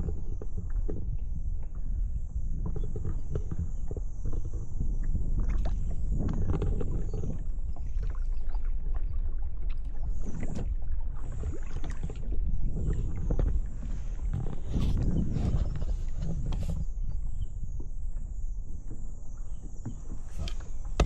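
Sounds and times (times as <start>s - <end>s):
low rumble on microphone: 0.0s - 21.0s
paddle strokes splashing water: 2.5s - 21.0s.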